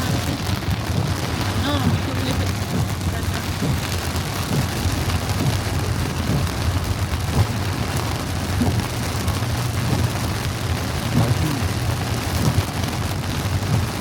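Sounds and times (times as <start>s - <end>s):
heavy rain drumming on car: 0.0s - 14.0s
steady low rumble: 0.0s - 14.0s.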